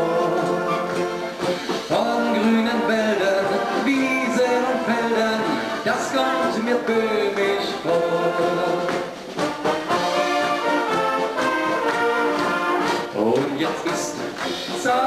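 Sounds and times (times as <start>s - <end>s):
brass band playing polka: 0.0s - 15.0s.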